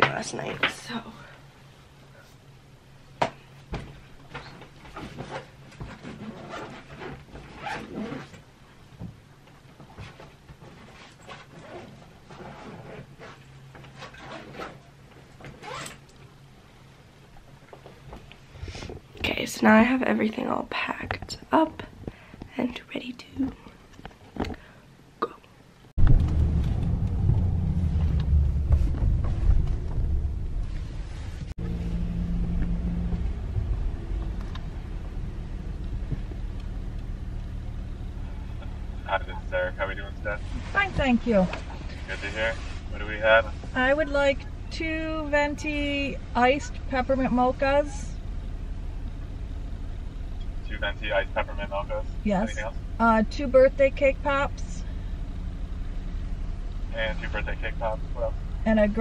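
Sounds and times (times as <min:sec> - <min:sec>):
car engine and road noise: 0:01.4 - 0:22.4, 0:23.3 - 0:59.0.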